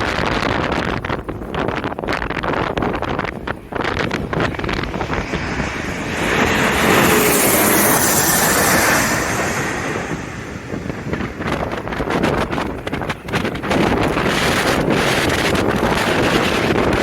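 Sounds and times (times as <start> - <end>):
wind buffeting microphone: 0.0 - 17.0
jet airliner passing overhead: 2.2 - 17.0.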